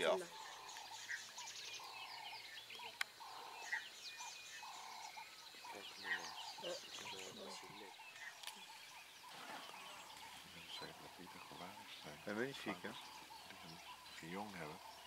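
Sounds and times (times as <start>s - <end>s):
birds chirping: 0.0s - 15.0s
low croaking call: 0.0s - 15.0s.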